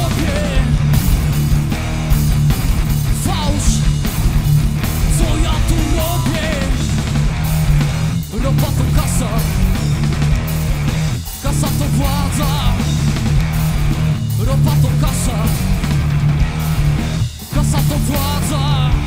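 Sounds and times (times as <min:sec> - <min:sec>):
bass guitar: 0:00.0 - 0:19.0
drum kit: 0:00.0 - 0:19.0
electric guitar: 0:00.0 - 0:19.0.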